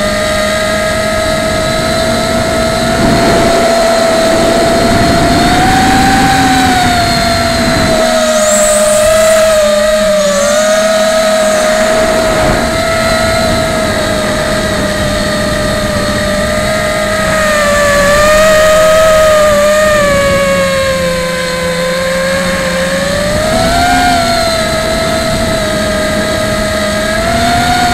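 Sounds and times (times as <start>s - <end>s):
quadcopter motors whining: 0.0s - 27.9s.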